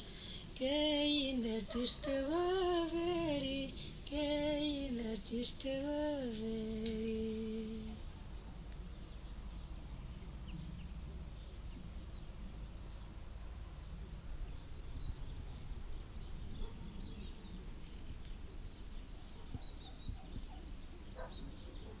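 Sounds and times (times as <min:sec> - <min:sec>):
low steady rumble: 0:00.0 - 0:21.0
distant bird chirps: 0:00.0 - 0:22.0.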